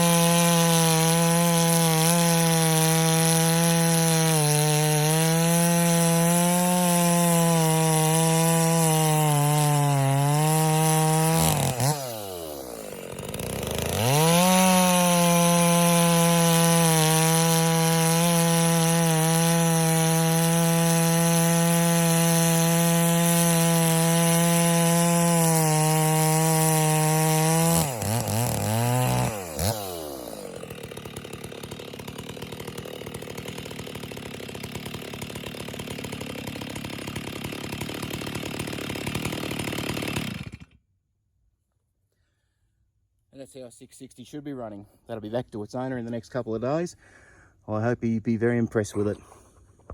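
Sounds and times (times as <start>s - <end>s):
chainsaw engine revving: 0.0s - 40.8s.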